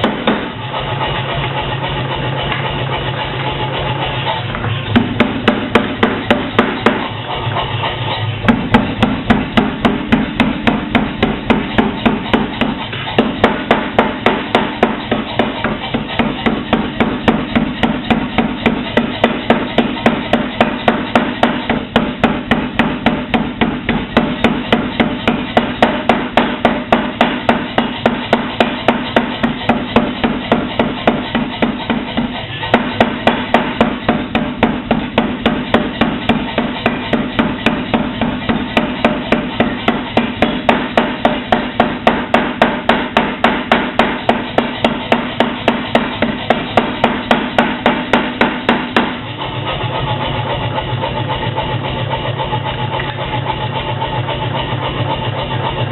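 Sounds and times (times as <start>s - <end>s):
power hammer pounding steel: 0.0s - 55.9s.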